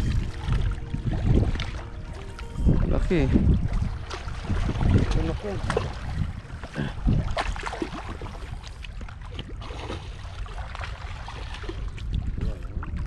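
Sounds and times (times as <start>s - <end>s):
steady low rumble: 0.0s - 13.0s
water lapping: 0.0s - 13.0s.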